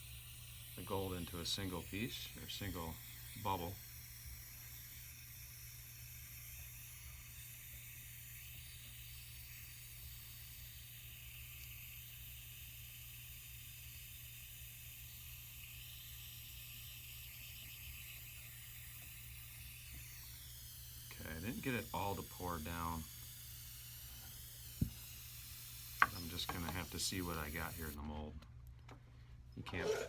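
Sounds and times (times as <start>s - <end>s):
gas torch flame hissing: 0.0s - 28.0s.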